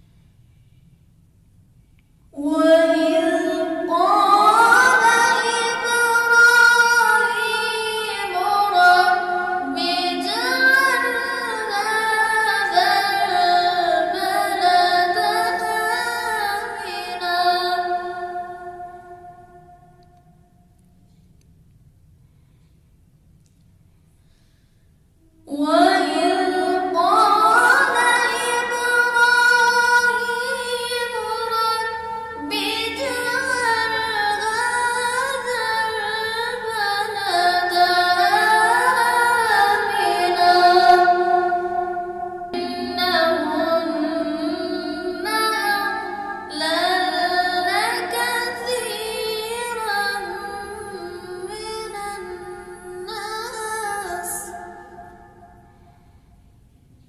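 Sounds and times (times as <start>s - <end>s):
person chanting recitation: 2.4s - 19.4s, 25.5s - 54.9s.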